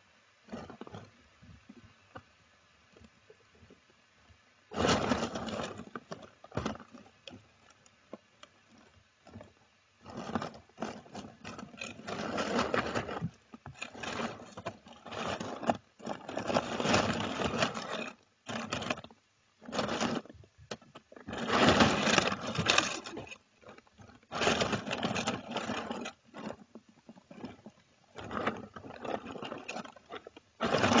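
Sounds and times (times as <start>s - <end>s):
squirrels rustling and scratching: 4.7s - 31.0s.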